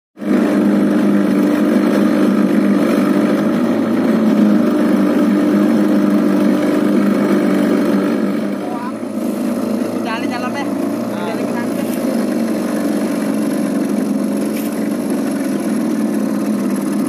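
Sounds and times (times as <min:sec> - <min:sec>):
boat engine droning: 0:00.2 - 0:17.0.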